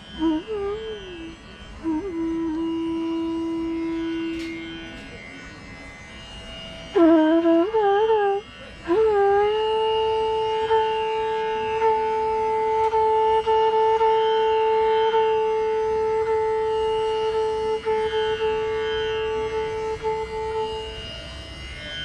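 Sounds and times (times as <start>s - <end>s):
melody instrument holding a note: 0.0s - 22.0s.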